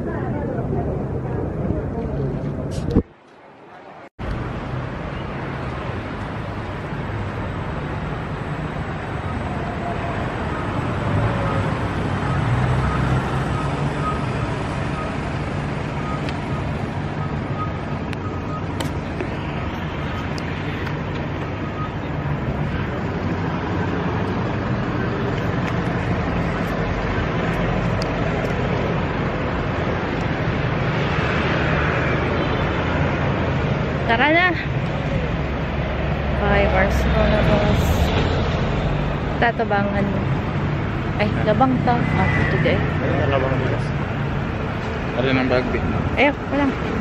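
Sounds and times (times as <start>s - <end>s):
road traffic engine hum: 0.0s - 47.0s.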